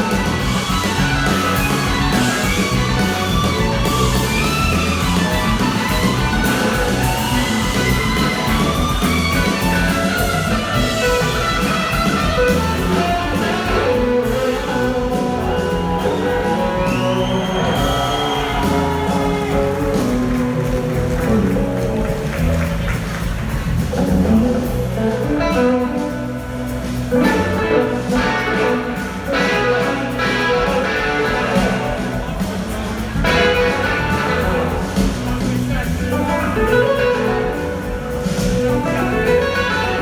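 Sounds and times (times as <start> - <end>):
bass guitar: 0.0 - 40.0
drums: 0.0 - 40.0
electric guitar lead: 0.0 - 40.0.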